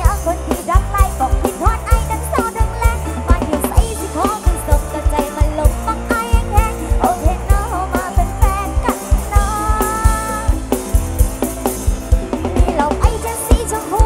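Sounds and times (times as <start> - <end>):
woman singing: 0.0 - 10.8, 12.4 - 14.0
live band music: 0.0 - 14.0.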